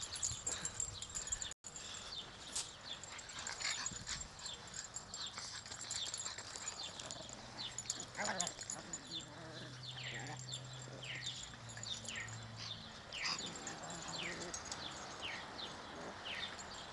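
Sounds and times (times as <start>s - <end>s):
puppies yipping and squeaking: 2.4s - 16.9s.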